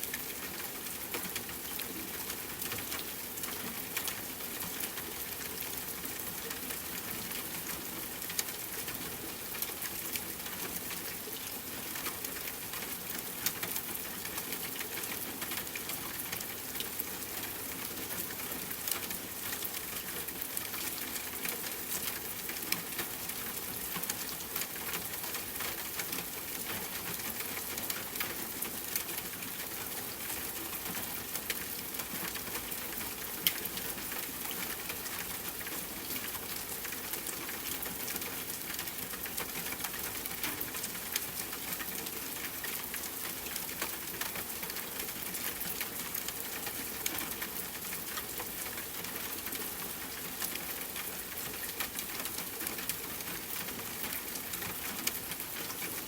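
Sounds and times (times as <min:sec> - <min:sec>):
rain pattering on a tent: 0:00.0 - 0:56.0.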